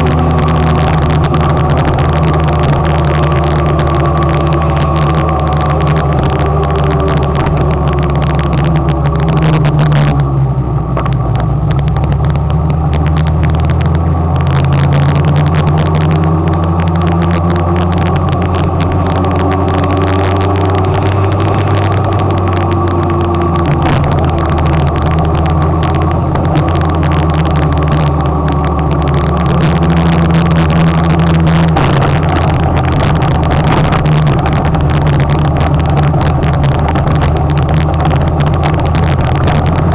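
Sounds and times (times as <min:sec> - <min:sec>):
continuous rush of noise: 0:00.0 - 0:39.9.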